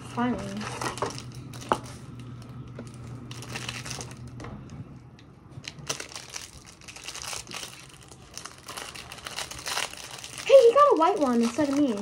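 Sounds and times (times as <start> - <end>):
plastic wrapper crinkling: 0.0 - 4.4, 5.6 - 12.0
low hum: 0.0 - 10.5.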